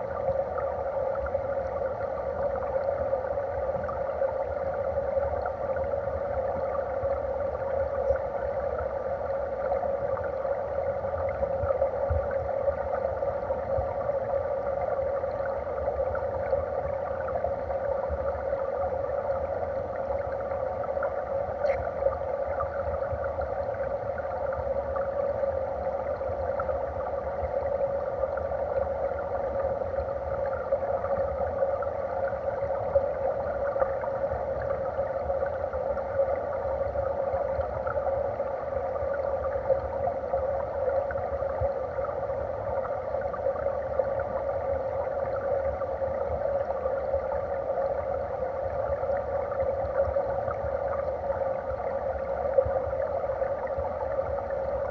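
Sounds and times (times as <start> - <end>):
muffled stream water underwater: 0.0 - 54.9.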